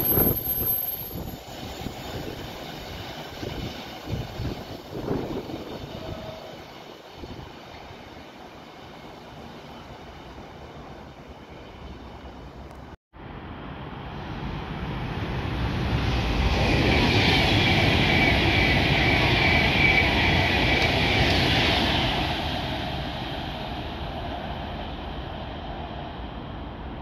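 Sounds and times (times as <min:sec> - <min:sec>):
electric train passing: 0:00.0 - 0:27.0.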